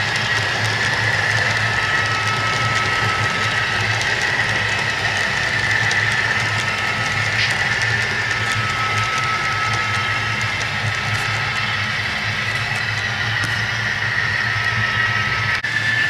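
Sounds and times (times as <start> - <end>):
model train wheels clicking: 0.0 - 15.8
diesel locomotive engine from speaker: 0.0 - 16.0.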